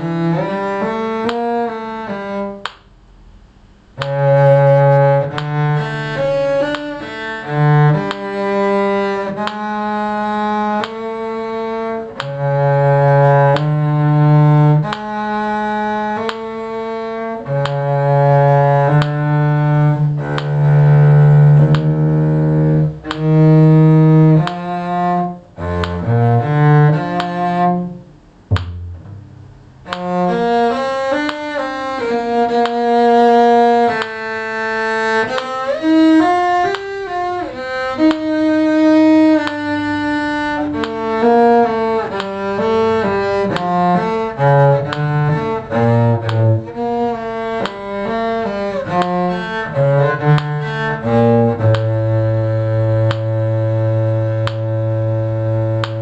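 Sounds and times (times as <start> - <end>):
bowed cello melody: 0.0 - 56.0.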